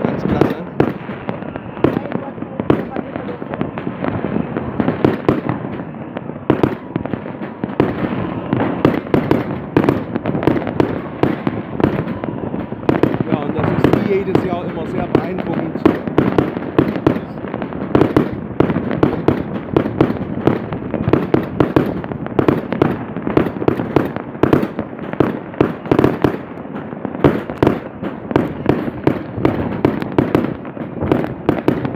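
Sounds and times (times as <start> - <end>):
fireworks and firecrackers banging: 0.0 - 31.9.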